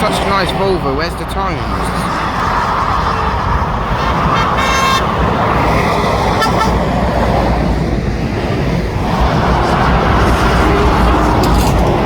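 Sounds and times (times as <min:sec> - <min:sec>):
motorway traffic passing: 0:00.0 - 0:12.0
wind rumbling on microphone: 0:00.0 - 0:12.0.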